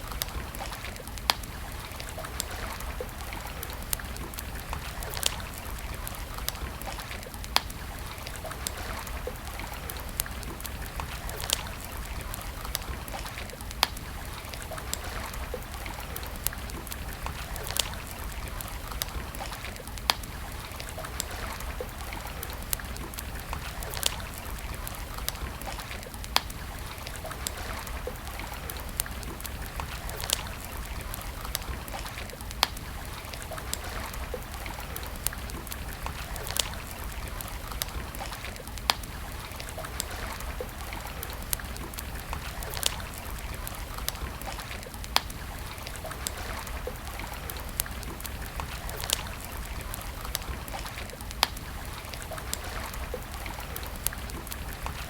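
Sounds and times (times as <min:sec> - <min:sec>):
campfire crackling and popping: 0:00.0 - 0:55.0
flowing river water: 0:00.0 - 0:55.0.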